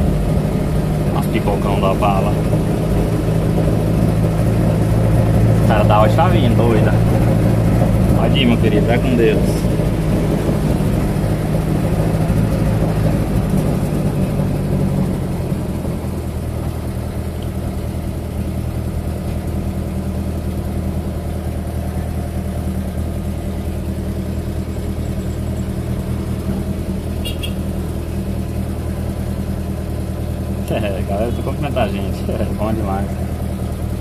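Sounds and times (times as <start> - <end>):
car engine pulling and idling: 0.0 - 34.0.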